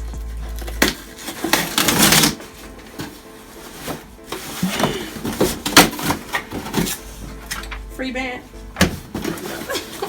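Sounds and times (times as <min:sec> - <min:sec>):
packaging rustling and crinkling: 0:00.0 - 0:07.9, 0:08.8 - 0:10.0.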